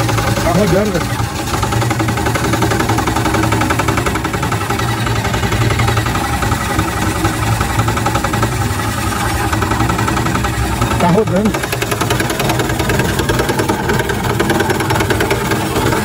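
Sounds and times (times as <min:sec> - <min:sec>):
boat motor humming and ticking: 0:00.0 - 0:16.0.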